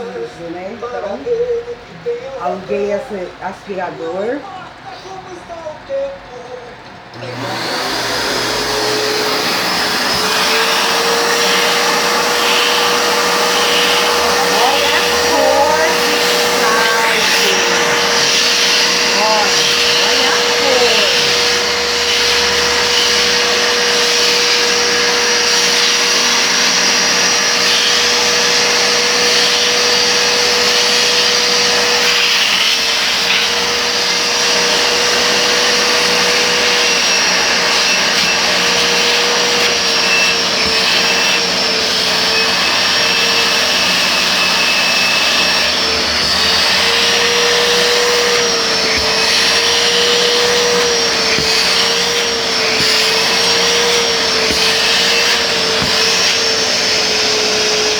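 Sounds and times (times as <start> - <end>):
vacuum cleaner motor whine: 0.0 - 57.9.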